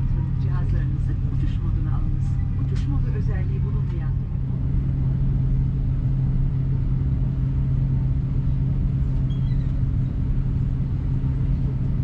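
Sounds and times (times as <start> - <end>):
airplane cabin low hum: 0.0 - 12.0.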